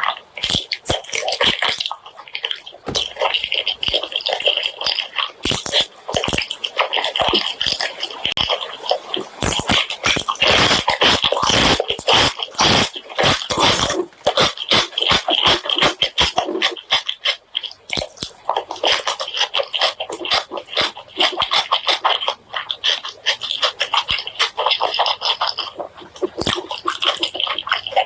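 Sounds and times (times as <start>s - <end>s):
person chewing and lip-smacking: 0.0s - 28.0s.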